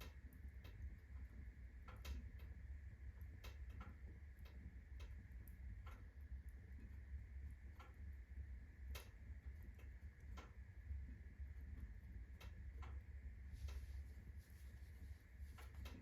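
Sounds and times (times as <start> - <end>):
logs crackling in a fireplace: 0.0 - 16.0.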